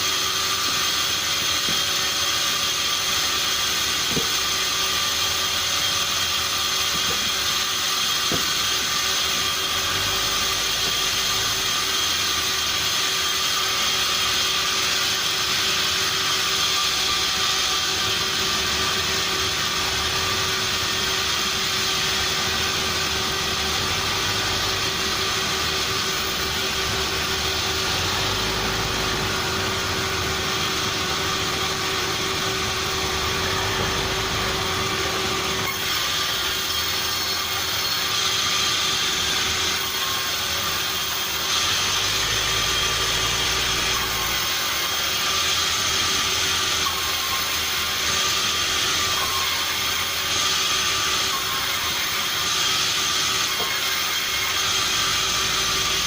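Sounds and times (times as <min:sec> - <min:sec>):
sawmill machinery whining: 0:00.0 - 0:56.0.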